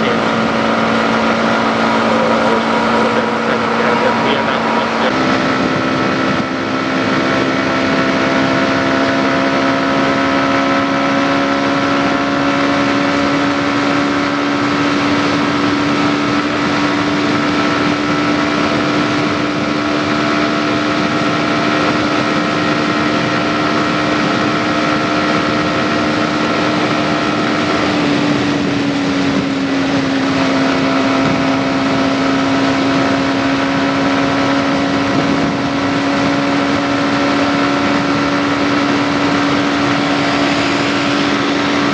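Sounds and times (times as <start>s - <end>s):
motorcycle engine running: 0.0s - 41.9s
wind noise: 0.0s - 41.9s.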